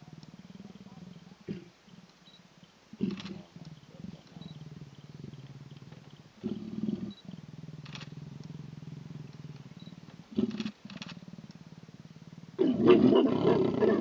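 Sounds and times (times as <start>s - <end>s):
leopard snarl: 0.0s - 2.0s, 2.9s - 14.0s
leopards growling: 0.0s - 14.0s.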